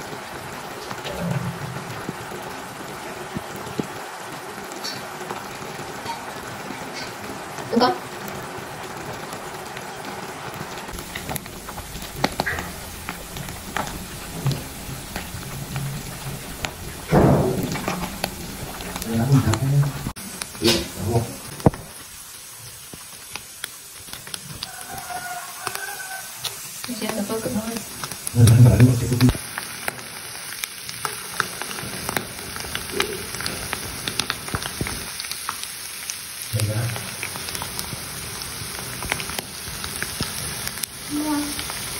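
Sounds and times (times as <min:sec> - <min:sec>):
fish sizzling in a pan: 0:00.0 - 0:41.9.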